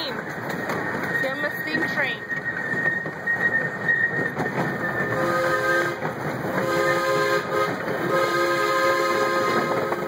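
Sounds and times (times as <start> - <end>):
rumble of cars on track: 0.0 - 10.0
steam train chime whistle: 1.2 - 6.0, 6.6 - 10.0.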